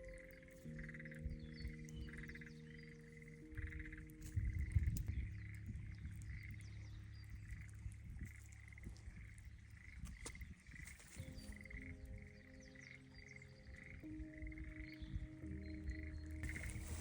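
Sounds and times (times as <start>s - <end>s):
low rumble: 0.0s - 17.0s
tree frogs calling in chorus: 0.0s - 17.0s.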